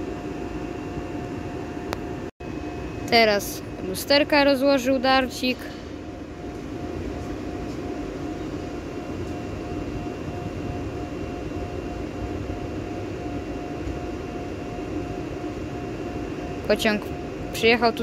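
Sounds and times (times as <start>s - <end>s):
electric train hum with thin whine: 0.0s - 18.0s.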